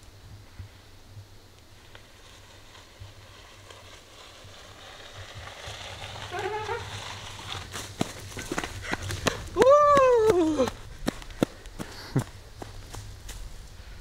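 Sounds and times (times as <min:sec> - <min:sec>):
bike tyres crunching on dirt: 0:00.3 - 0:14.0.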